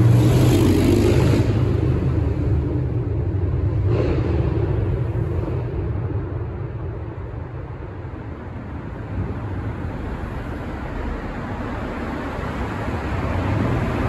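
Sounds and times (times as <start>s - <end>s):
road traffic rumble in tunnel: 0.0s - 14.0s.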